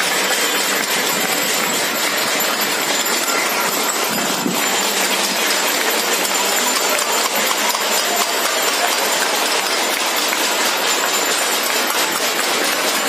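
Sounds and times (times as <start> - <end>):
banging metal plates and utensils: 0.0 - 13.0
people clapping: 0.0 - 13.0.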